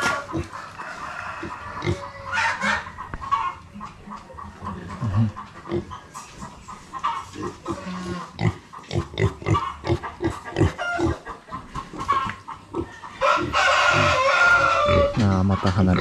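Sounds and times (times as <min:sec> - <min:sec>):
pigs grunting: 0:00.0 - 0:00.6, 0:01.3 - 0:03.5, 0:04.6 - 0:16.0.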